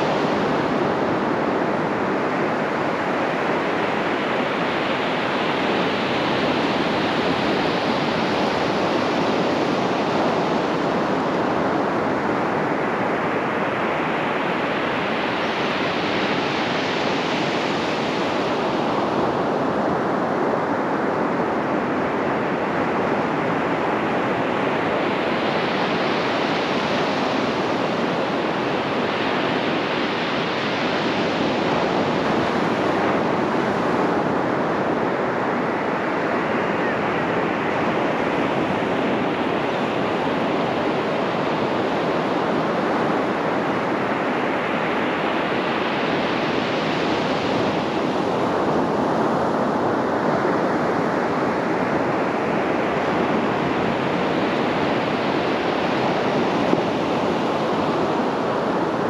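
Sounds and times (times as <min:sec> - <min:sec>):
waves breaking on sandy beach: 0:00.0 - 0:59.0.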